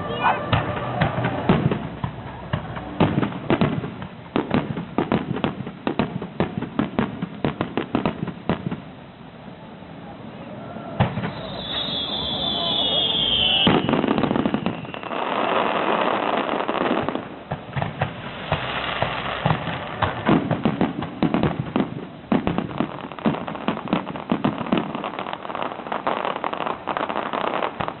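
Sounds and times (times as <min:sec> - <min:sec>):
fireworks popping and banging: 0:00.0 - 0:08.9, 0:11.0 - 0:28.0
fireworks crackling: 0:00.0 - 0:09.4, 0:10.6 - 0:28.0.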